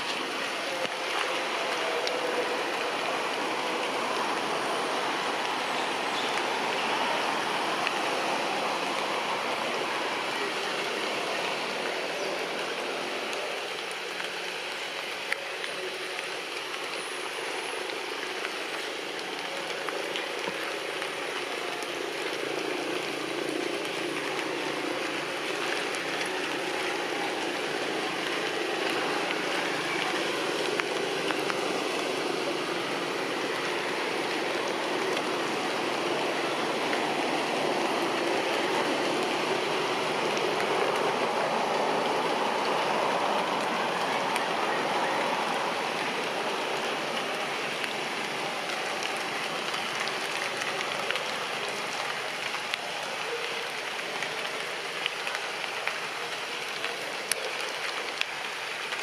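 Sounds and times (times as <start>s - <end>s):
rain on foliage: 0.0s - 59.0s.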